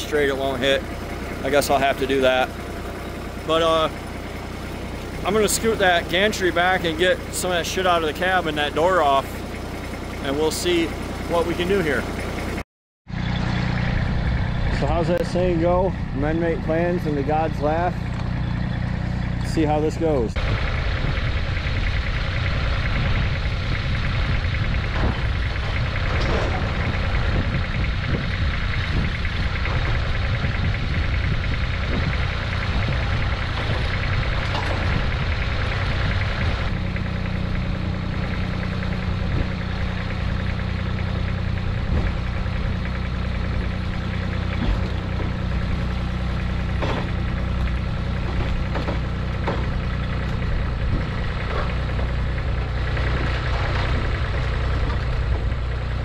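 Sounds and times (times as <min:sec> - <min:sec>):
small tractor engine running: 0:00.0 - 0:56.0.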